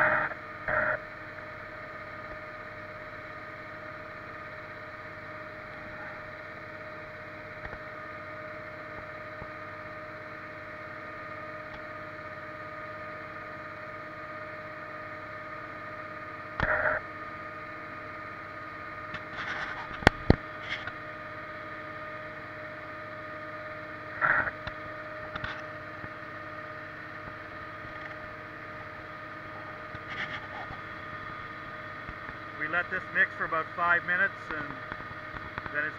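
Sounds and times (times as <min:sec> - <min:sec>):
feed mixer wagon droning: 0:00.0 - 0:35.9.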